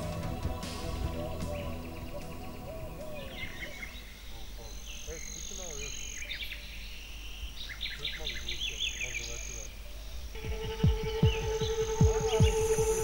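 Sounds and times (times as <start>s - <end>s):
birds chirping: 0.0s - 13.0s
high insect trill: 0.0s - 13.0s.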